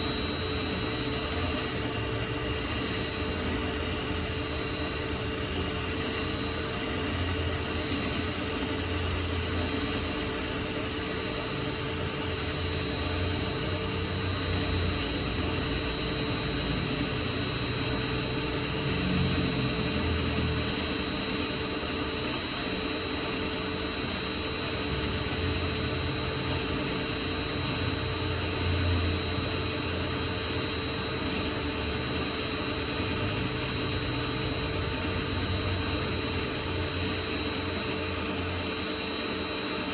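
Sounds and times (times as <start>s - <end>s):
bench lathe whining: 0.0s - 39.9s.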